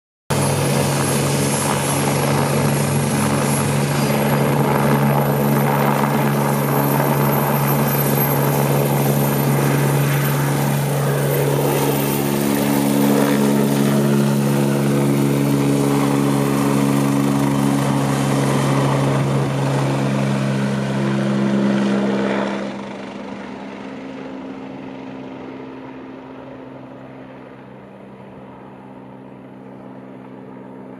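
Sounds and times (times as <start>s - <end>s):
helicopter rotor noise: 0.3s - 30.9s
high turbine whine: 0.3s - 30.9s.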